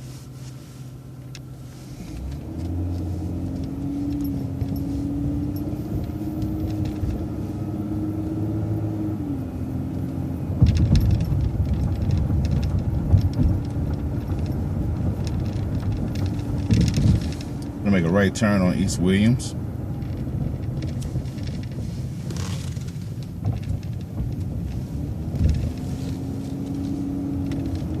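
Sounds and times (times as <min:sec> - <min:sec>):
rough rumble with rattles: 0:00.0 - 0:28.0
vehicle engine under load: 0:00.0 - 0:28.0.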